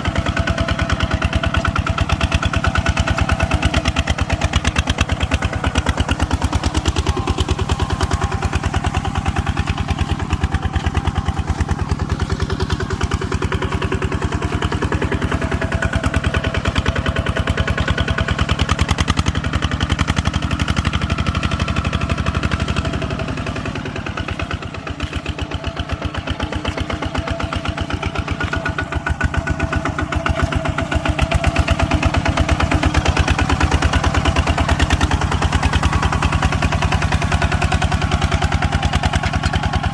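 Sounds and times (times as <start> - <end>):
farm machine engine chugging: 0.0 - 39.9.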